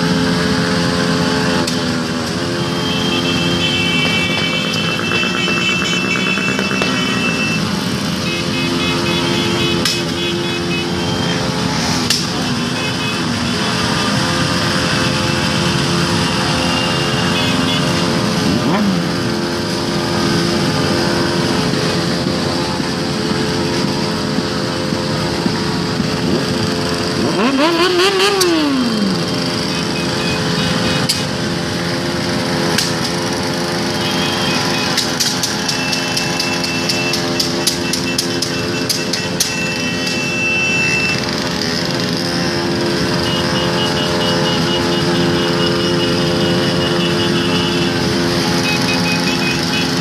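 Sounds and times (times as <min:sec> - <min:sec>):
motorcycle engines running: 0:00.0 - 0:50.0
horns beeping: 0:01.6 - 0:22.2, 0:27.2 - 0:50.0.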